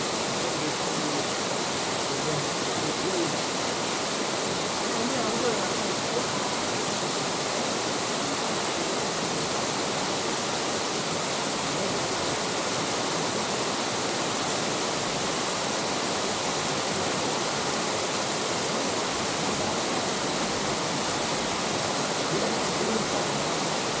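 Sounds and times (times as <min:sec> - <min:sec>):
waterfall splashing into pool: 0:00.0 - 0:24.0.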